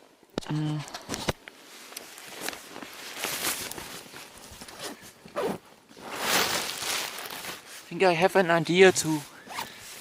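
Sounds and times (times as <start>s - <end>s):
rustling handling noise: 0.8s - 10.0s.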